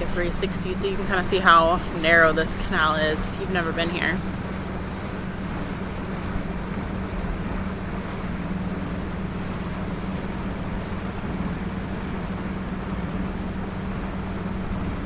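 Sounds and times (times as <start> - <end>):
boat engine humming: 0.0 - 15.0
water rushing: 0.0 - 15.0.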